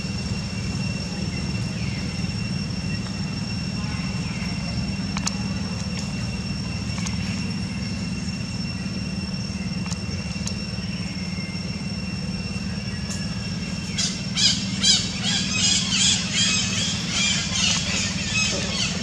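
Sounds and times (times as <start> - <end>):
faint high whine: 0.0 - 19.0
steady low hum: 0.0 - 19.0.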